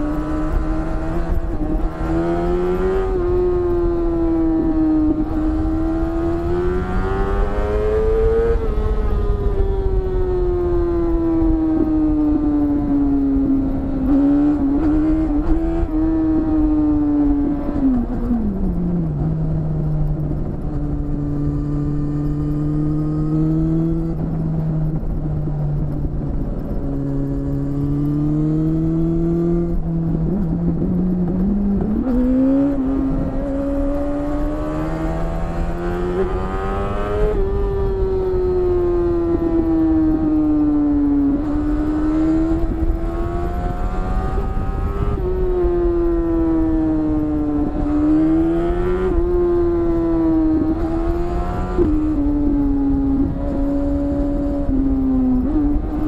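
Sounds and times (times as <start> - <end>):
wind rush: 0.0 - 56.0.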